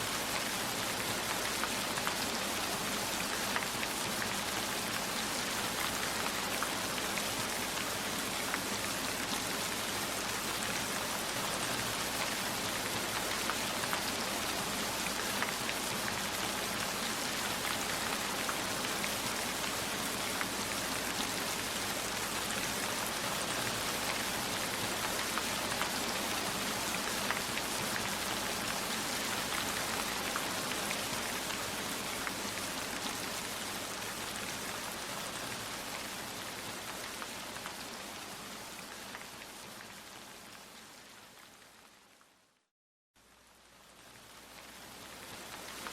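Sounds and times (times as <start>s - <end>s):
heavy rain: 0.0s - 42.2s, 43.4s - 45.9s.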